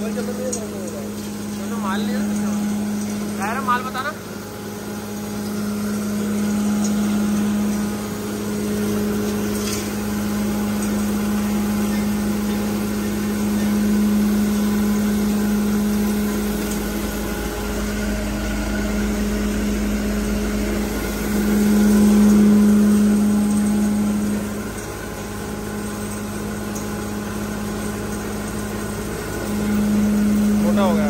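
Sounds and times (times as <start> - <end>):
feed grinder machine hum: 0.0 - 31.0.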